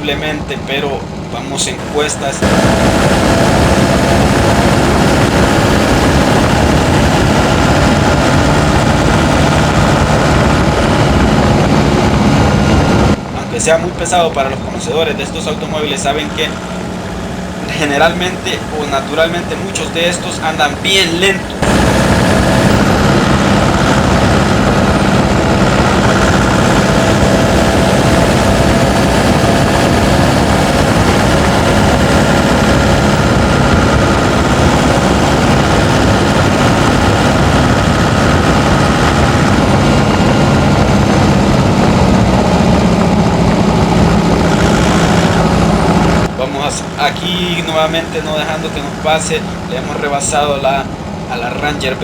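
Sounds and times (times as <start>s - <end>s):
engine running under load: 0.0s - 52.0s.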